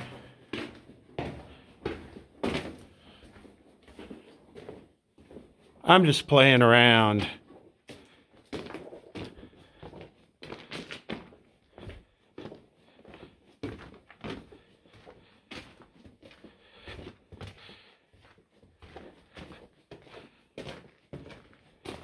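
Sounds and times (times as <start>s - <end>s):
footsteps crunching on gravel: 0.0s - 22.0s.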